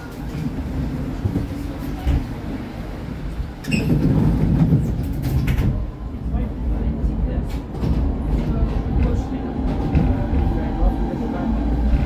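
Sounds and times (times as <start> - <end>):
tram motors and wheels rumbling: 0.0 - 12.0.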